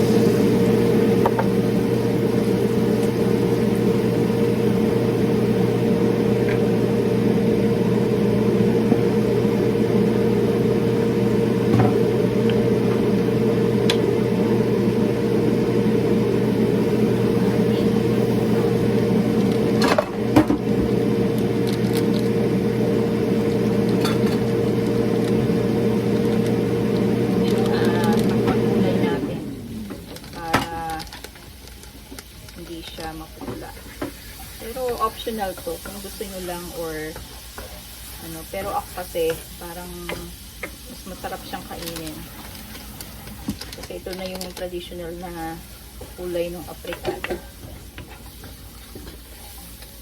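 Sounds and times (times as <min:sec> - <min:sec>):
fan motor hum: 0:00.0 - 0:50.0.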